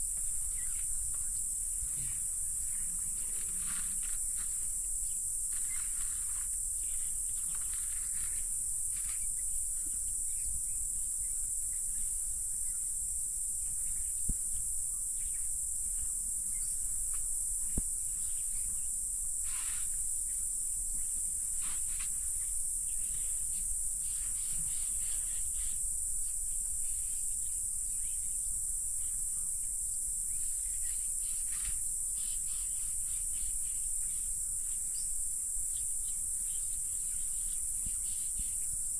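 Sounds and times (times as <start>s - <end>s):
faint rustles: 0.0s - 13.0s, 13.6s - 28.4s, 30.4s - 38.9s
high-pitched insect chorus: 0.0s - 38.9s.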